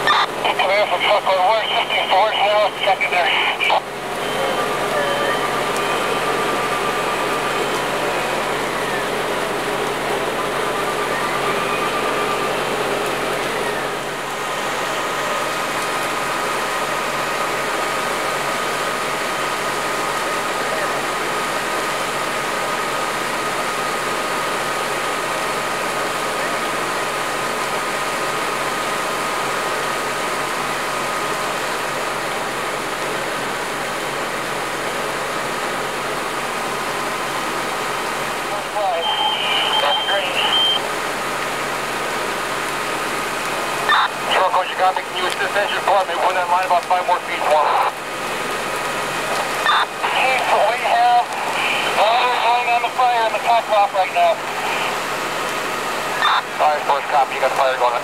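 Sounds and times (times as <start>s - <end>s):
high whine: 0.0s - 27.3s, 30.6s - 58.0s
fire engines running: 0.0s - 58.0s.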